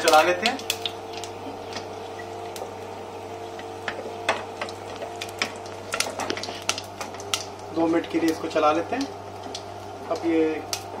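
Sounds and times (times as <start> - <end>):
spices sizzling in oil: 0.0 - 11.0
steady hum: 0.0 - 11.0.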